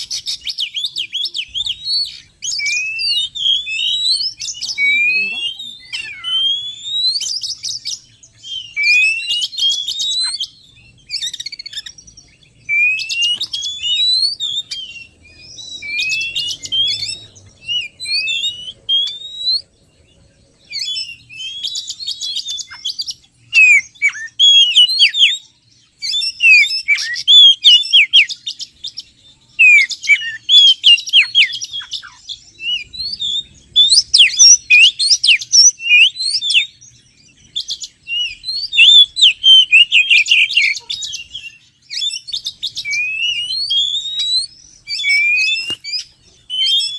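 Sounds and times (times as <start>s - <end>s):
songbird singing whistles: 0.0s - 19.7s, 20.6s - 46.9s.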